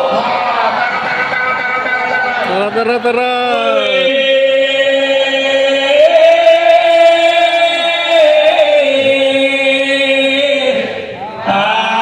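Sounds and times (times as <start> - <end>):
crowd cheering in unison: 0.0 - 9.2, 10.4 - 12.0.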